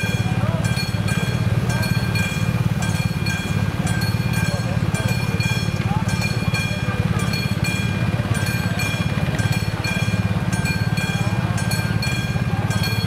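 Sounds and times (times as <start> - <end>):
engine idling: 0.0 - 13.0
level-crossing warning bell: 0.0 - 13.0.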